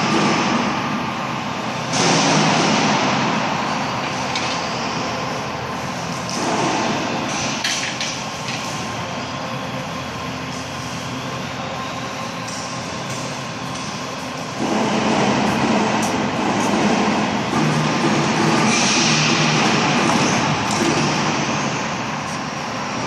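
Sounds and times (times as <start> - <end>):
plate bending machine running: 0.0 - 23.0.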